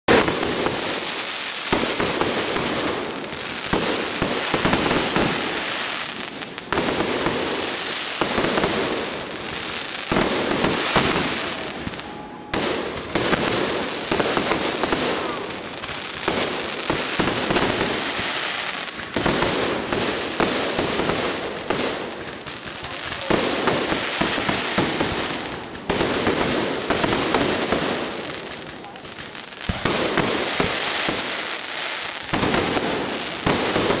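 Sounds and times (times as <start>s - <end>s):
fireworks popping and crackling: 0.0s - 34.0s.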